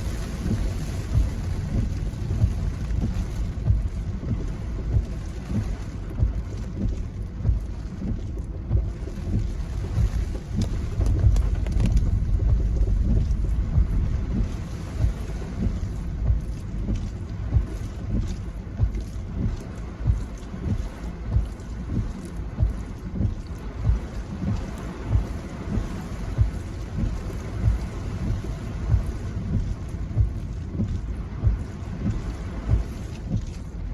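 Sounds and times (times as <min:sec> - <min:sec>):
gusty wind buffeting microphone: 0:00.0 - 0:33.9.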